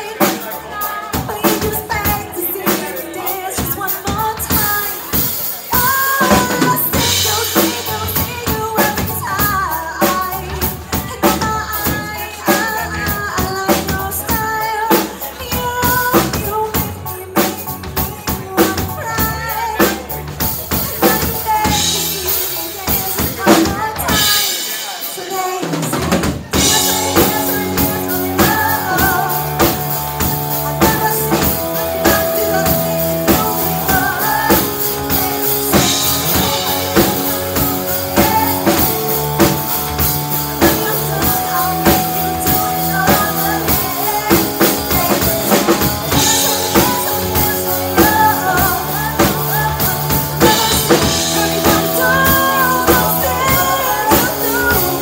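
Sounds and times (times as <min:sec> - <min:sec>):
drum kit beat: 0:00.0 - 0:55.0
live rock band playing: 0:00.0 - 0:55.0.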